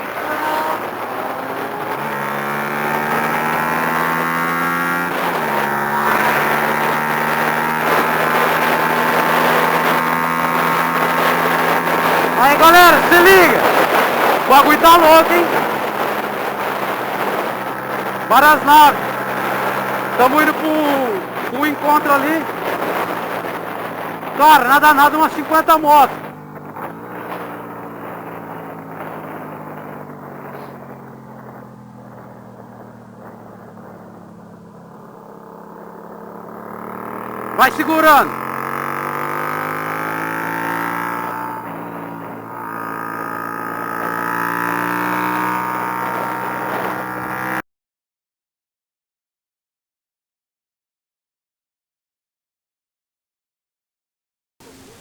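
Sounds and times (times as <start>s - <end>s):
motorcycle engine cruising: 0.0s - 47.6s, 54.6s - 55.0s
road noise: 0.0s - 47.6s, 54.6s - 55.0s
wind on microphone: 0.0s - 47.6s.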